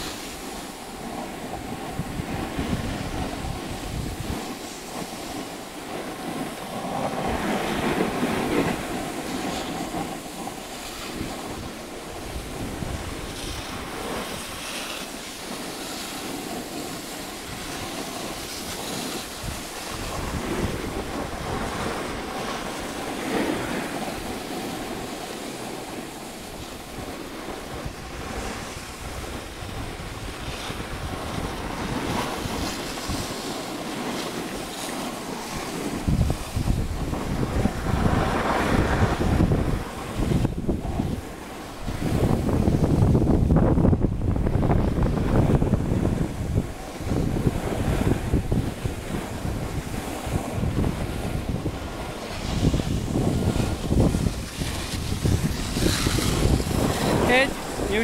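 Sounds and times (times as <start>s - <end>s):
skis scraping over snow: 0.0s - 43.7s, 44.6s - 58.0s
wind buffeting microphone: 0.0s - 58.0s.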